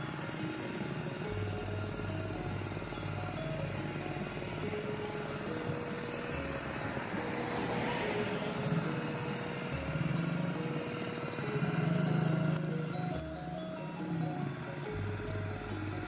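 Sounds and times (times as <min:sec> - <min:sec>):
background music simple melody: 0:00.0 - 0:16.0
minivan driving past: 0:00.0 - 0:16.0.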